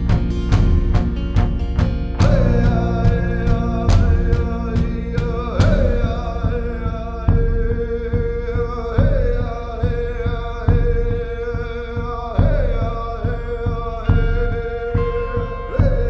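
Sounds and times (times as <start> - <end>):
song with steady beat: 0.0 - 16.0.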